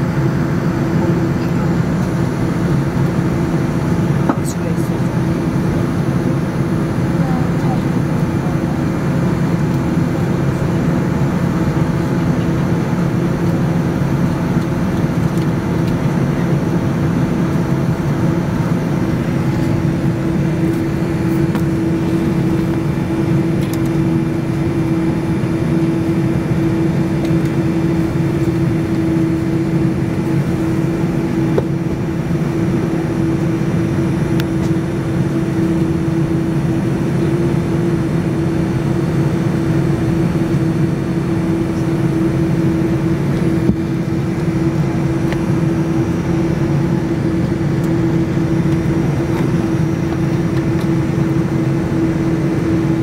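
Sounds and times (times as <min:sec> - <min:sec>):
jet engines rumbling: 0:00.0 - 0:53.0
steady cabin hum: 0:00.0 - 0:53.0.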